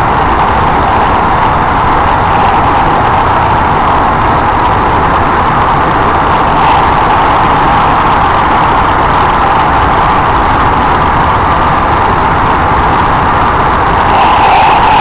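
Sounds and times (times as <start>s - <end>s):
train wheels rumbling in tunnel: 0.0s - 15.0s.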